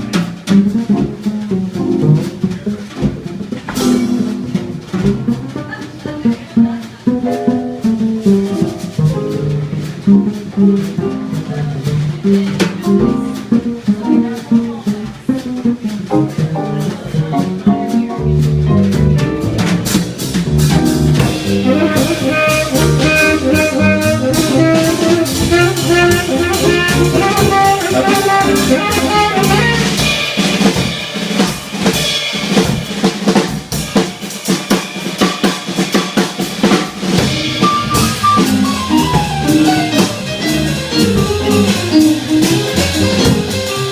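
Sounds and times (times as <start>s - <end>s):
drum kit snare and cymbals: 0.0s - 43.9s
jazz quartet playing: 0.0s - 43.9s.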